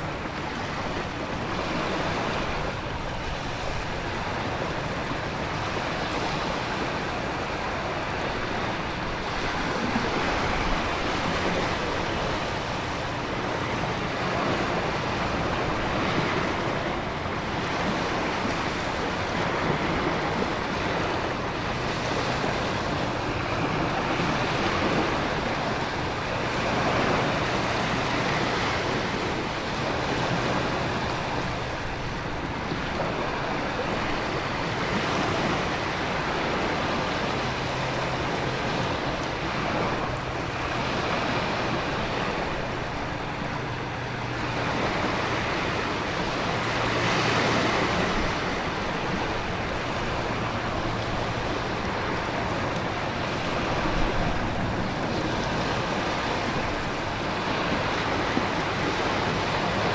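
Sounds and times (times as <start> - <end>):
ocean surf: 0.0 - 59.9
wind: 0.0 - 59.9.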